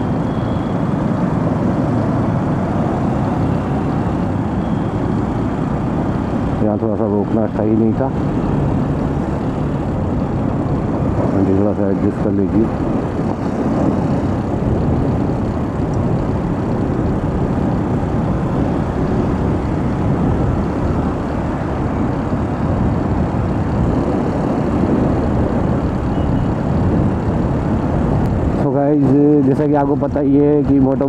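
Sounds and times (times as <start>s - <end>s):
motorcycle road noise: 0.0s - 31.0s
wind rush: 0.0s - 31.0s.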